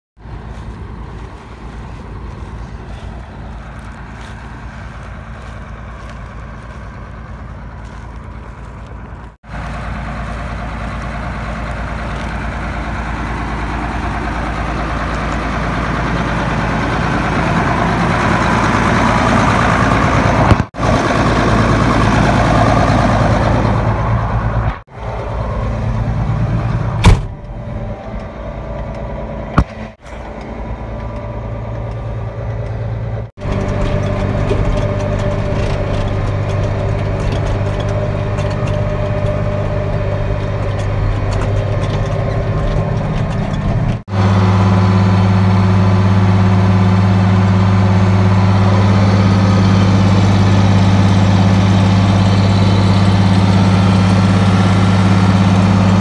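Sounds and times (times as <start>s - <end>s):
tractor diesel engines running: 0.2s - 56.0s.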